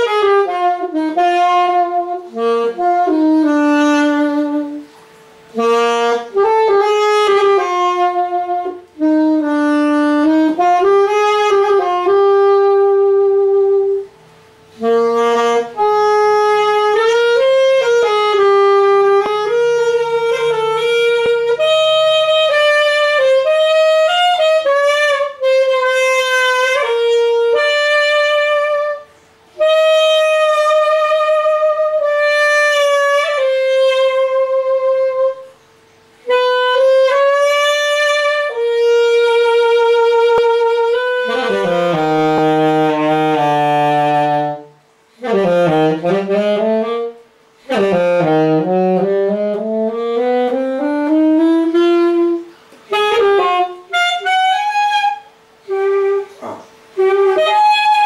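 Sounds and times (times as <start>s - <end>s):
solo saxophone melody: 0.0s - 58.0s.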